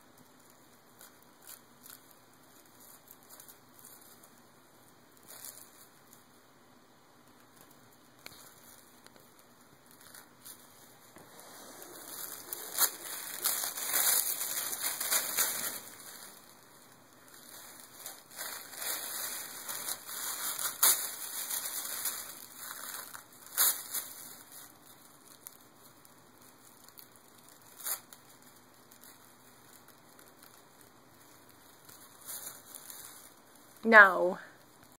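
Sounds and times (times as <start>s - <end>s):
tissue paper crinkling: 0.3s - 6.4s, 7.3s - 34.9s.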